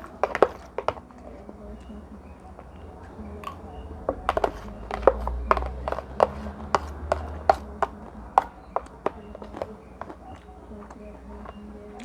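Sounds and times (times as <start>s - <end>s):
cutlery clinking on a plate: 0.0s - 1.5s, 3.4s - 12.0s.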